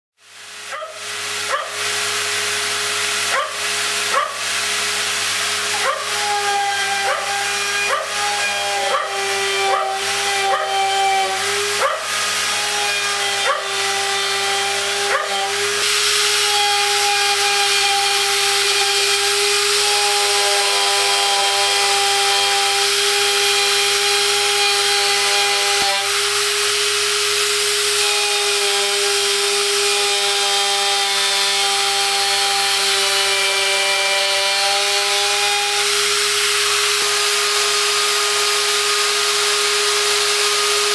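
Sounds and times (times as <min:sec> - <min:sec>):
milling motor high whine: 0:00.2 - 0:34.4
cutter rushing through wood: 0:00.2 - 0:40.9.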